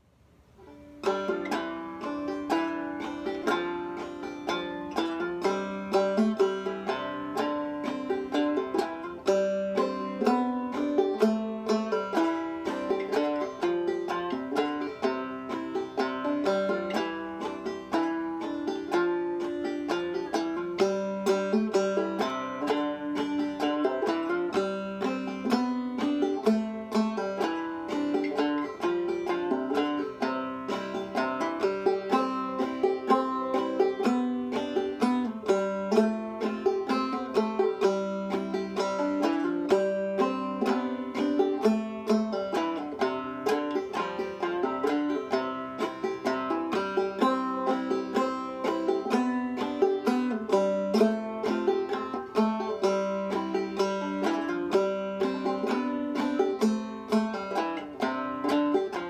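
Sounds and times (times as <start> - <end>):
solo banjo playing: 0.0 - 59.0.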